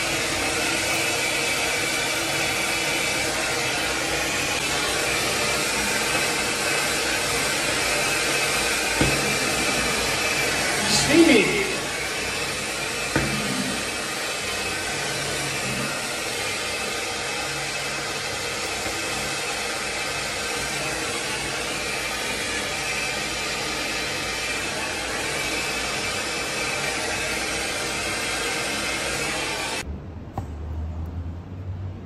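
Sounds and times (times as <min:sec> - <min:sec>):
torch flame hissing: 0:00.0 - 0:29.8.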